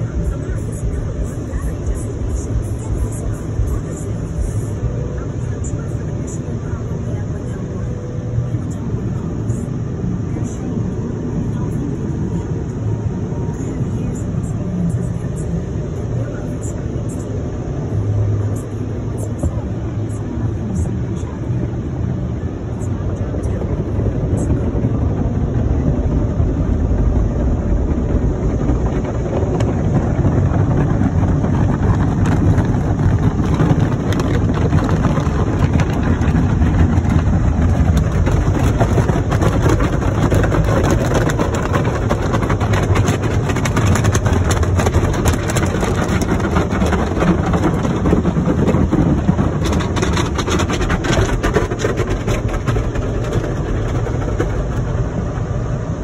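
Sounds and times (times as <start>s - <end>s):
car wash machinery rumble: 0.0s - 56.0s.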